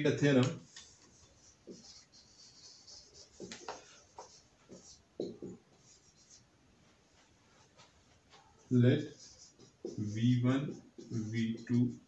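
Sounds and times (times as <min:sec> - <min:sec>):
marker squeaking on whiteboard: 0:00.2 - 0:06.5, 0:07.7 - 0:12.0.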